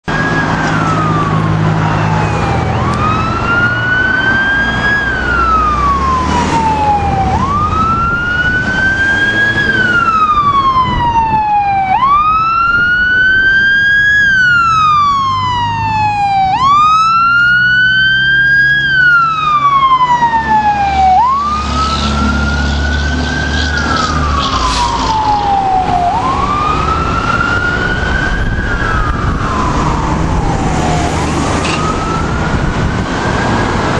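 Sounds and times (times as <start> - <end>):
fire engine siren wailing: 0.0 - 33.9
truck engine rumbling: 0.0 - 33.9.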